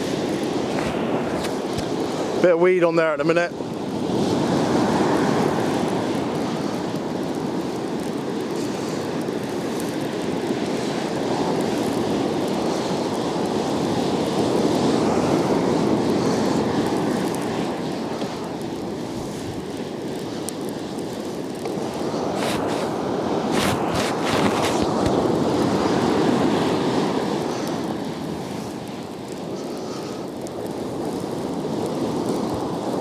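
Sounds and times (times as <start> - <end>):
surf breaking on beach: 0.0 - 33.0.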